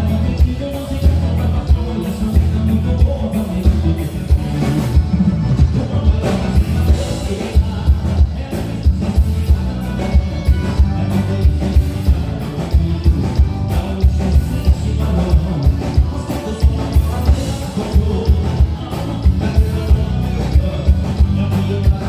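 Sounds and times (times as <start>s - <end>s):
live band playing dance song: 0.0s - 22.0s
steady drum beat: 0.0s - 22.0s.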